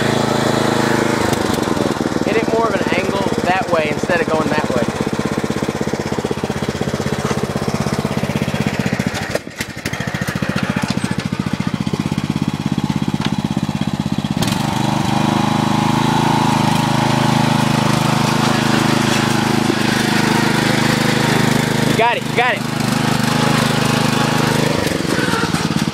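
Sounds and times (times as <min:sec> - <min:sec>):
riding mower engine under load: 0:00.0 - 0:25.9.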